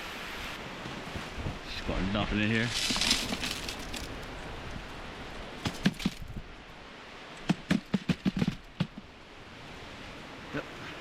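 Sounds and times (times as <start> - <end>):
surf: 0.0 - 11.0
wind: 0.0 - 11.0.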